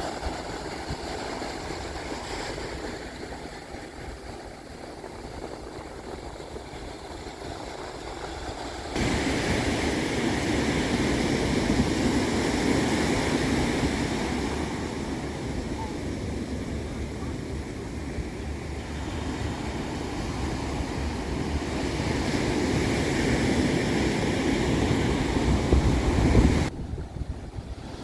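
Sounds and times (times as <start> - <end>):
ocean surf washing onto beach: 0.0 - 28.0
wind: 0.0 - 28.0.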